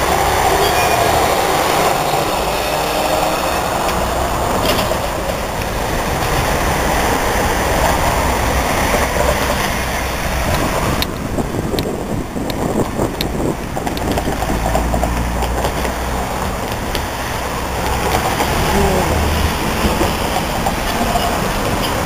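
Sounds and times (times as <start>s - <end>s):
bus passing: 0.0s - 22.0s
street traffic: 0.0s - 22.0s
tram passing: 0.0s - 22.0s.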